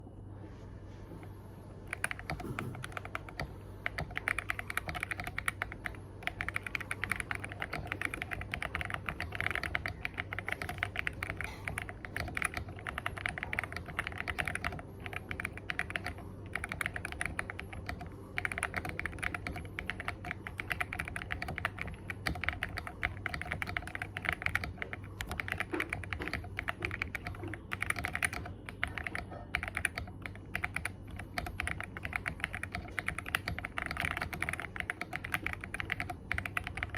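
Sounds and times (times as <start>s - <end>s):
fast typing on keyboard: 1.9s - 36.9s.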